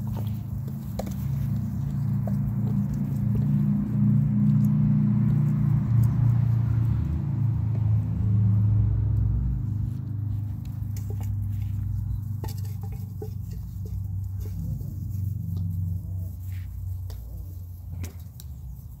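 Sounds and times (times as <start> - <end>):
low steady rumble: 0.0 - 19.0
puppy paws pattering and clicking: 0.0 - 19.0.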